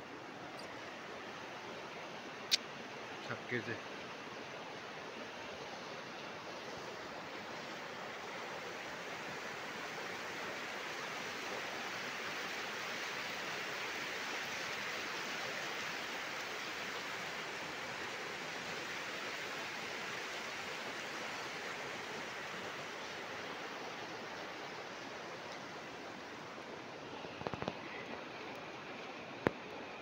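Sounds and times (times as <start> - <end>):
floodwater rushing and churning: 0.0 - 30.0.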